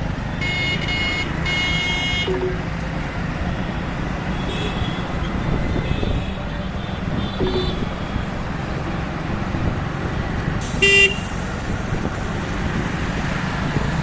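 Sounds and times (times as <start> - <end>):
motorbike road noise: 0.0 - 14.0.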